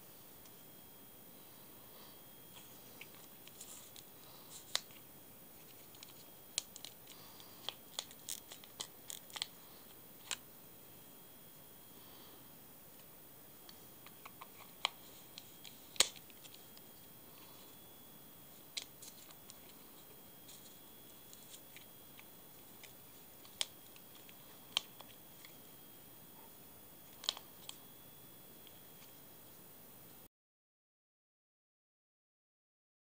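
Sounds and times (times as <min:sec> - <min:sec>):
faint hiss: 0:00.0 - 0:30.3.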